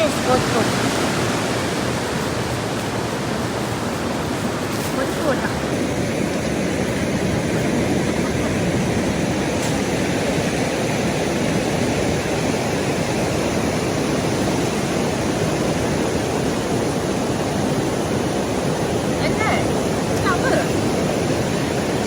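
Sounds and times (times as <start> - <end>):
rushing river water: 0.0 - 22.0.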